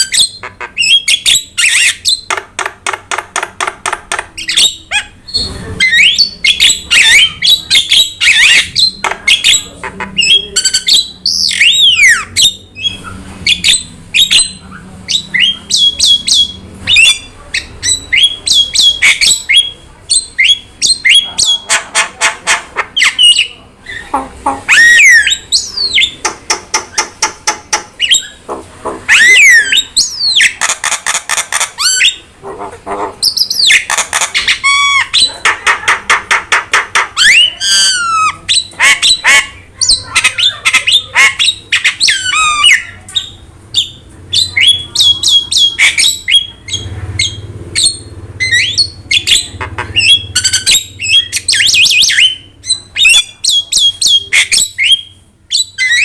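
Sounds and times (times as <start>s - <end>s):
bird singing varied song: 0.0s - 21.8s, 22.5s - 28.5s, 29.1s - 32.3s, 33.1s - 56.0s.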